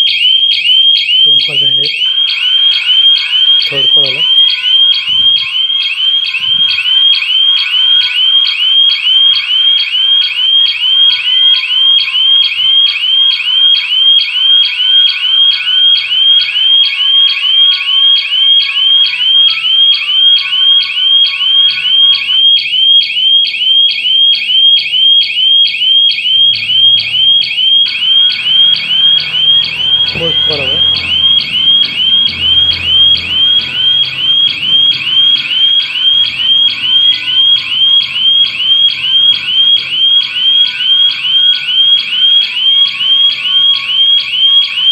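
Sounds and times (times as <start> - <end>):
electronic alarm siren wailing: 0.0 - 44.9.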